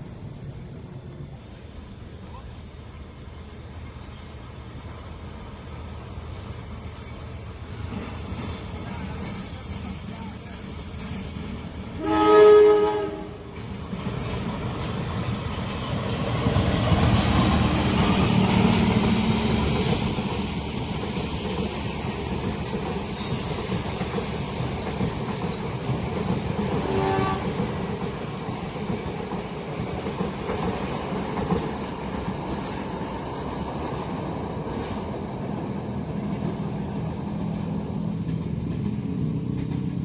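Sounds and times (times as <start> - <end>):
train passing on rails: 0.0 - 40.0.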